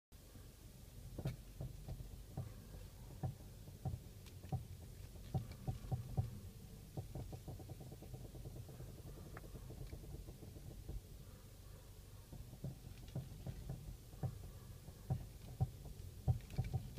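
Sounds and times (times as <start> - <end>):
low steady rumble: 0.2 - 16.9
suspension knocks and clicks: 1.0 - 11.4, 12.0 - 16.9.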